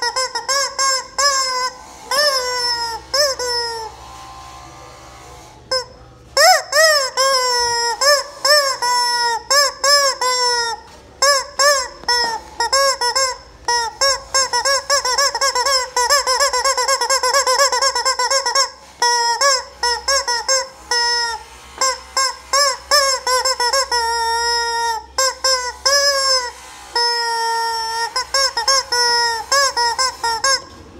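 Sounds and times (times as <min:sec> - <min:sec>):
rubber chicken toy squawking: 0:00.0 - 0:04.0, 0:05.7 - 0:30.9.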